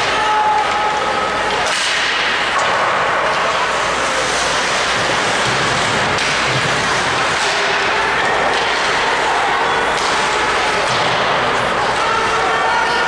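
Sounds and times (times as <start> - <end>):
skates on ice: 1.5 - 12.5.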